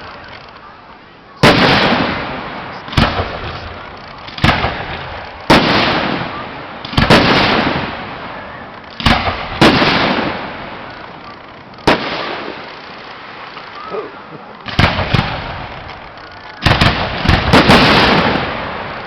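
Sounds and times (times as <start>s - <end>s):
fireworks bangs with echo: 1.4s - 13.9s, 14.6s - 19.0s.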